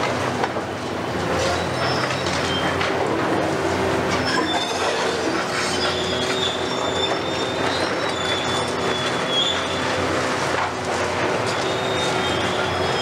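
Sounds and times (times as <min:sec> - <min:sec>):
excavator engines under load: 0:00.0 - 0:13.0
metal screeching: 0:01.0 - 0:02.9, 0:04.0 - 0:13.0.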